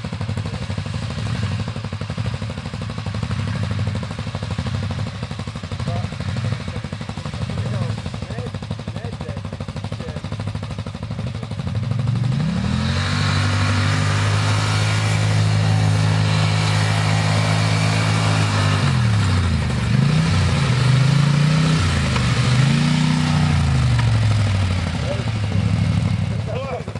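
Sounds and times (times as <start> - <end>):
engine revving: 0.0 - 26.9.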